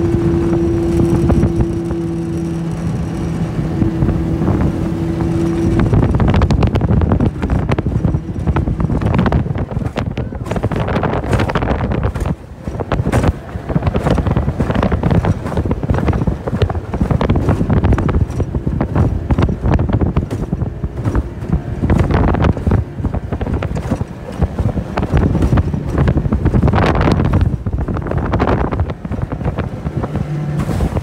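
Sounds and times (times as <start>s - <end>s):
boat hull slapping water: 0.0s - 31.0s
wind buffeting microphone: 0.0s - 31.0s.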